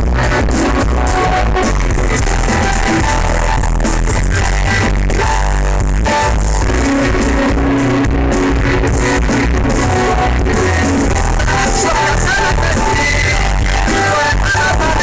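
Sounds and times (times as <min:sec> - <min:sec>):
bass guitar: 0:00.0 - 0:15.0
drum kit: 0:00.0 - 0:15.0
electric guitar: 0:00.0 - 0:15.0
live rock band playing: 0:00.0 - 0:15.0
person singing: 0:00.0 - 0:15.0.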